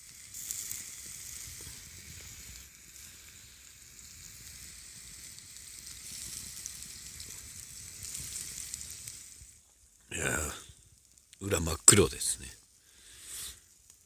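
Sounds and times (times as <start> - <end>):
sandwich sizzling in a press: 0.0 - 11.8, 12.8 - 14.0.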